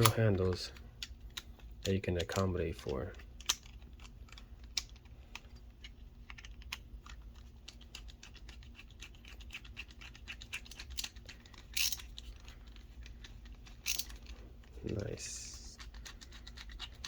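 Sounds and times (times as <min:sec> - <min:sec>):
reel parts clicking and tapping: 0:00.0 - 0:17.0.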